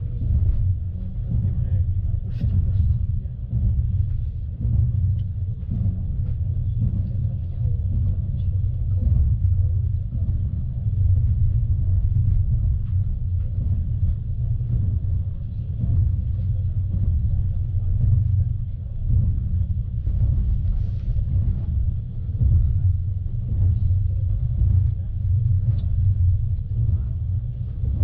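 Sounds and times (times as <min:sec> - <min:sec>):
faint clicks and rattles: 0:00.0 - 0:28.0
train rumble: 0:00.0 - 0:28.0.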